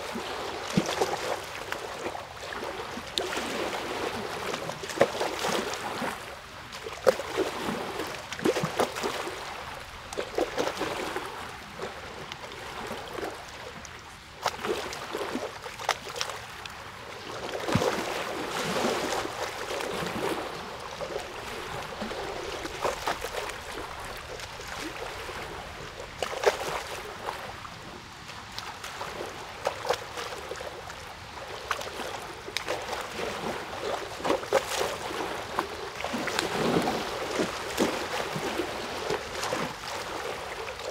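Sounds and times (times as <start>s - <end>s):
water lapping and splashing: 0.0s - 40.9s.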